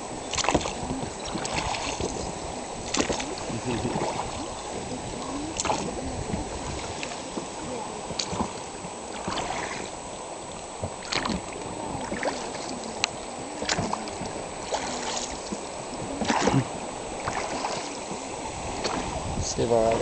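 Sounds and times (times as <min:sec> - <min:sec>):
river water rushing and lapping: 0:00.0 - 0:20.0.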